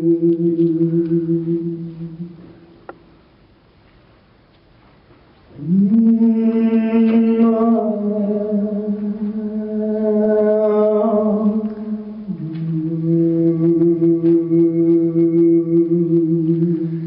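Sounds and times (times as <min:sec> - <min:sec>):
woman singing long notes: 0:00.0 - 0:02.7, 0:05.6 - 0:17.0.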